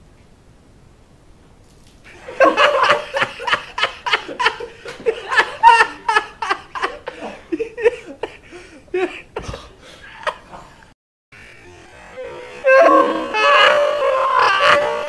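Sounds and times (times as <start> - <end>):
man laughing in breathy bursts: 2.1 - 15.0
slowed-down laughter: 2.1 - 15.0.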